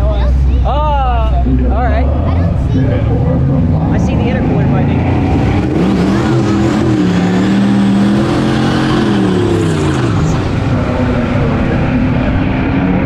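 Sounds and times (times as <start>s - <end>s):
racing car engine at full throttle: 0.0s - 13.0s.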